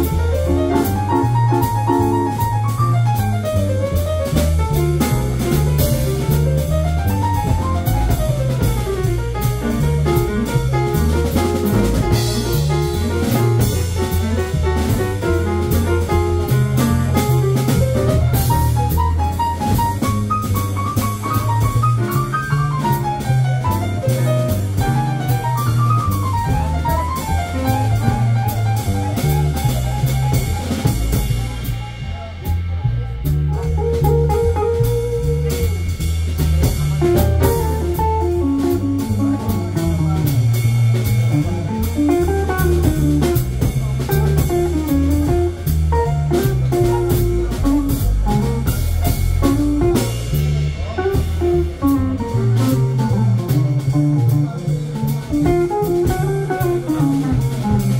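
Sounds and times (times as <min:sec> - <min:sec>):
drum kit with cymbals: 0:00.0 - 0:57.9
grand piano: 0:00.0 - 0:57.9
walking double bass: 0:00.0 - 0:57.9.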